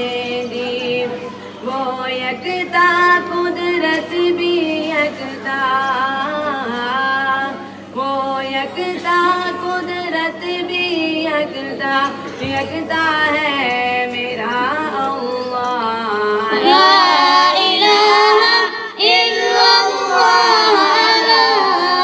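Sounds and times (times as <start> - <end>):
boy singing into a microphone: 0.0 - 22.0.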